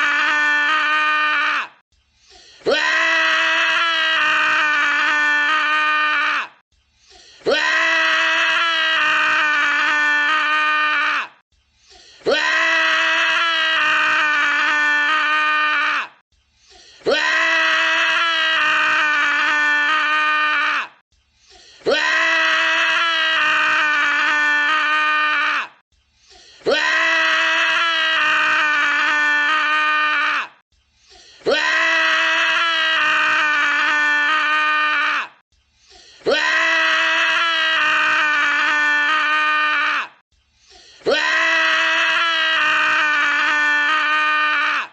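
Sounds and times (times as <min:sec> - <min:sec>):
man screaming: 0:00.0 - 0:01.8, 0:02.6 - 0:06.6, 0:07.4 - 0:11.4, 0:12.2 - 0:16.2, 0:17.0 - 0:21.0, 0:21.8 - 0:25.8, 0:26.6 - 0:30.6, 0:31.4 - 0:35.4, 0:36.2 - 0:40.2, 0:41.0 - 0:44.9.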